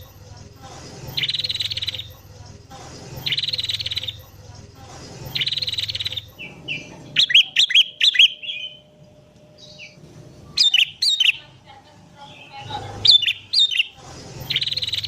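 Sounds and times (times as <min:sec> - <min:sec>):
bulbul song: 0:00.0 - 0:02.4, 0:03.2 - 0:04.5, 0:05.3 - 0:15.0
prinia song: 0:00.0 - 0:15.0.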